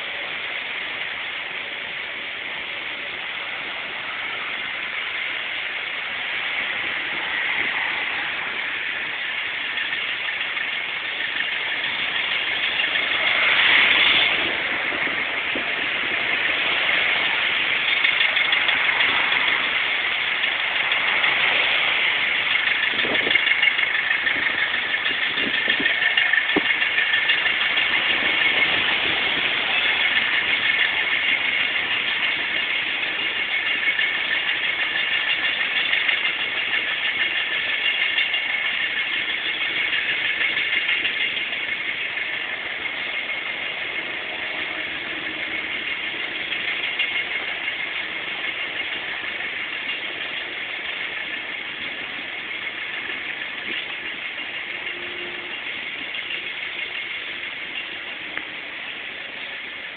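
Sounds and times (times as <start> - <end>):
street noise whirring hiss: 0.0 - 59.9.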